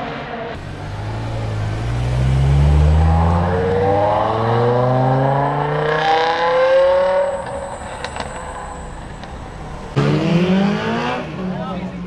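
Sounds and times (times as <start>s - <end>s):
car engine accelerating: 0.1s - 12.0s.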